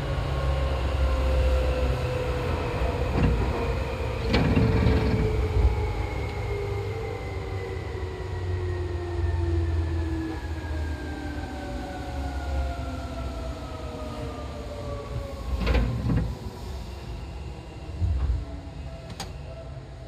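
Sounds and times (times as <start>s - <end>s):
low train rumble: 0.0s - 20.0s.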